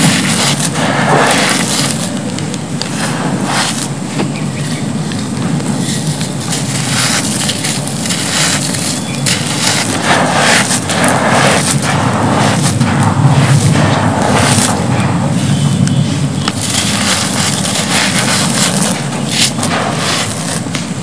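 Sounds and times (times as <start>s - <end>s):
hands crumbling dry cement powder: 0.0s - 21.0s.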